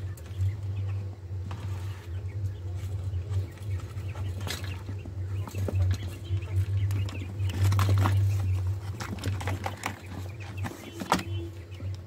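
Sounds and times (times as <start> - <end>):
quail clucking: 0.0 - 12.0
steady low hum: 0.0 - 12.0.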